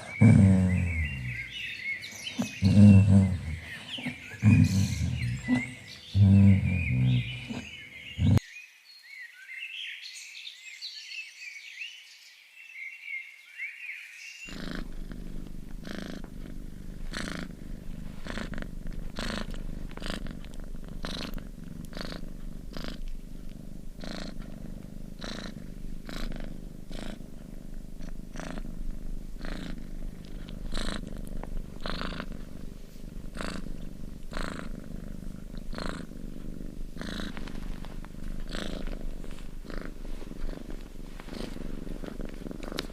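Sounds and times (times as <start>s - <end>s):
low animal rumble with breaths: 0.0s - 8.4s, 14.5s - 42.9s
small birds chirping: 0.0s - 40.7s.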